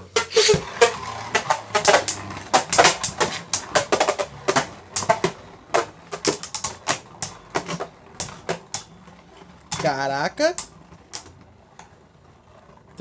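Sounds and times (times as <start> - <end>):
spinning tops clacking: 0.0 - 13.0.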